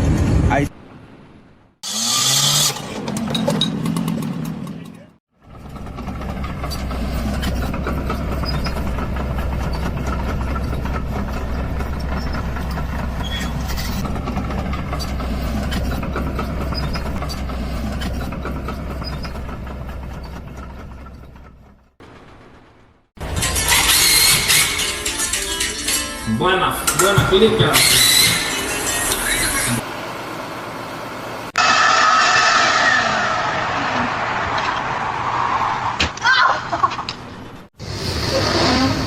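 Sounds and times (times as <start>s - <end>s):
heavy engine rumbling and rattling: 1.9s - 25.6s, 26.9s - 35.1s, 36.9s - 39.0s.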